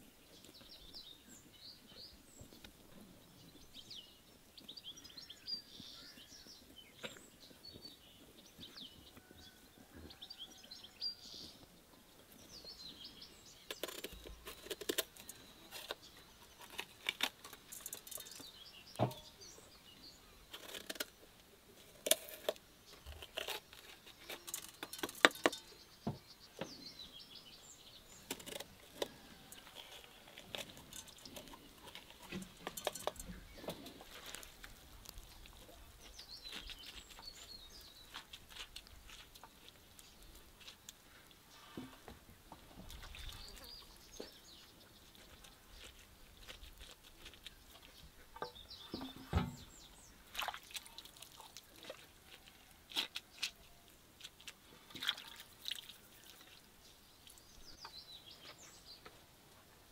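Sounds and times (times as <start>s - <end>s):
faint birds chirping: 0.0s - 59.9s.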